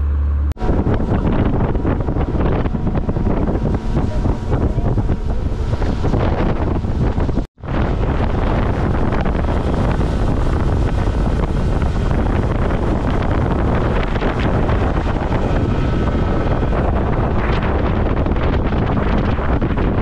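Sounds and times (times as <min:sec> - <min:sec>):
boat wake rushing: 0:00.0 - 0:20.0
motorboat engine rushing: 0:00.0 - 0:20.0
wind buffeting microphone: 0:00.6 - 0:20.0.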